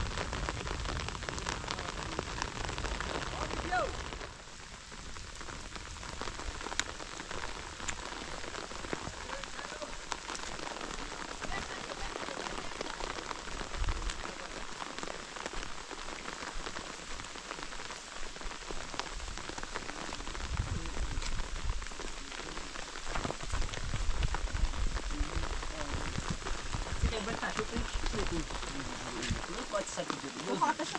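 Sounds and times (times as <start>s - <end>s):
rain falling: 0.0s - 30.9s.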